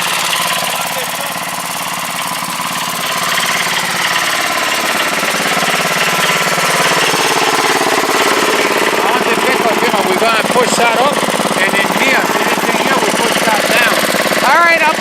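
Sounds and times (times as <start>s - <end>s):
small engine chugging: 0.0s - 15.0s.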